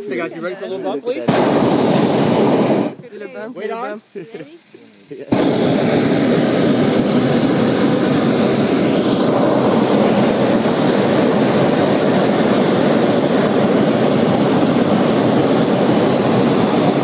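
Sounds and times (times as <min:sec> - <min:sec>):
propane burner blast: 0:01.2 - 0:03.2, 0:05.2 - 0:17.0.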